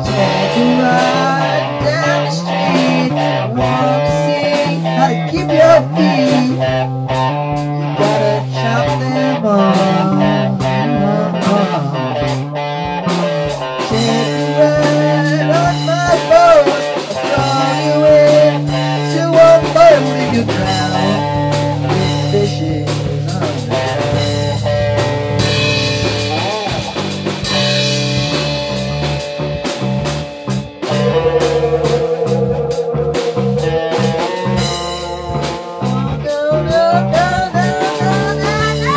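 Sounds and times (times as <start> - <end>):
lead guitar bending notes: 0.0 - 38.9
rock band jamming: 0.0 - 38.9.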